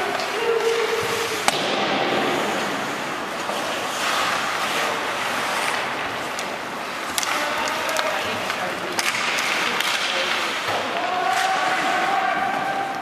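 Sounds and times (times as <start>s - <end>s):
crowd noise: 0.0s - 13.0s
skates cutting ice: 0.0s - 13.0s.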